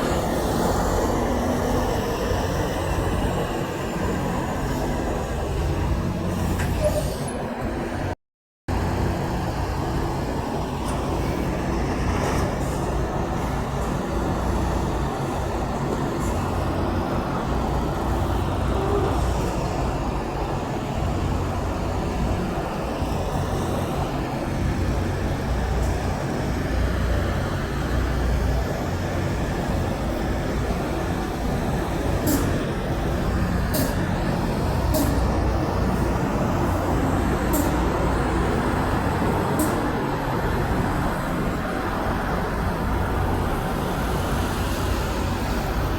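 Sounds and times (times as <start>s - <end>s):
road traffic noise: 0.0s - 45.9s.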